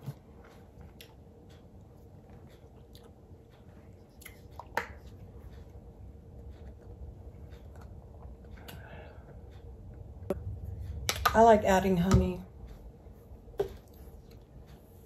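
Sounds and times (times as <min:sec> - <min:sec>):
faint chewing and mouth sounds: 0:00.0 - 0:11.4, 0:12.7 - 0:15.0.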